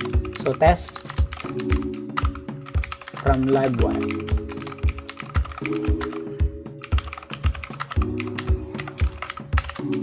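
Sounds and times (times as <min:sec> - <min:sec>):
background music with low beat: 0:00.0 - 0:10.0
keyboard typing clicks: 0:00.1 - 0:10.0.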